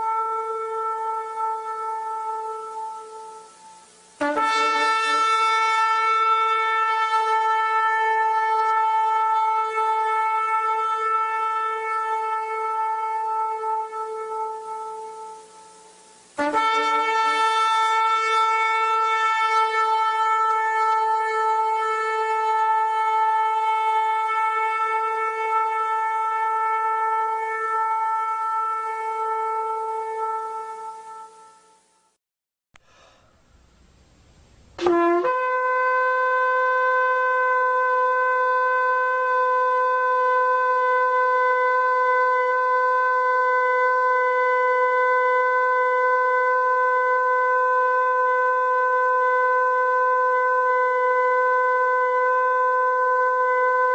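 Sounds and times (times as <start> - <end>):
shofar blasts: 0.0 - 32.2, 34.7 - 53.9.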